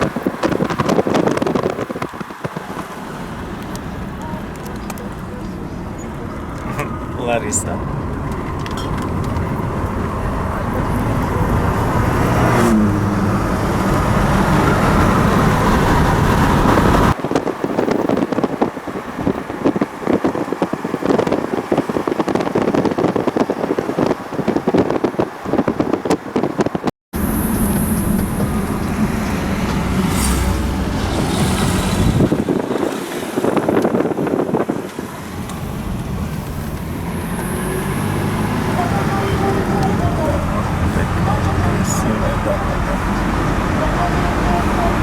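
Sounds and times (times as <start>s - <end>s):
car engine and road rumble: 0.0s - 45.0s.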